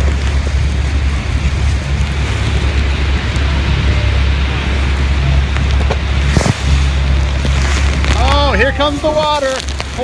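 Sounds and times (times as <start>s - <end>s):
waterfall roaring: 0.0s - 10.0s
wind buffeting microphone: 0.0s - 10.0s.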